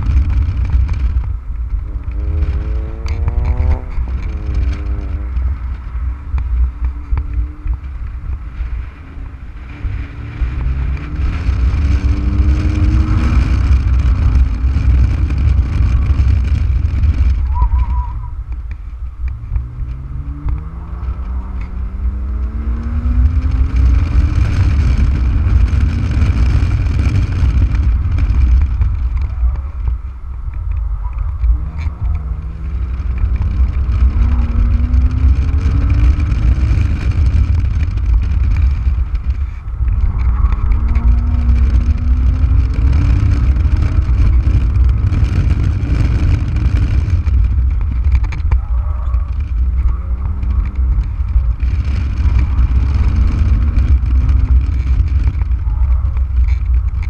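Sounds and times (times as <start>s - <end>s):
car engine accelerating hard: 0.0s - 57.0s
wind buffeting microphone: 0.0s - 57.0s.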